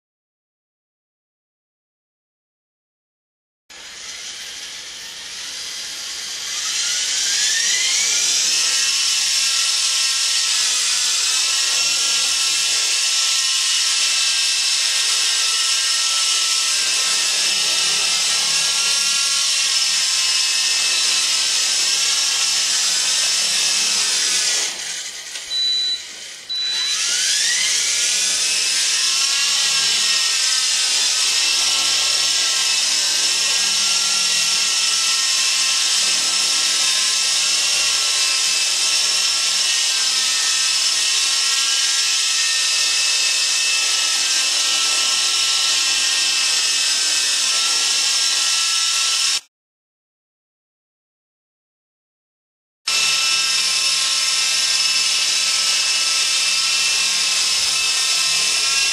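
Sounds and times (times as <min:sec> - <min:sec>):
toy helicopter rotor whine: 0:03.7 - 0:49.5, 0:52.9 - 0:58.9.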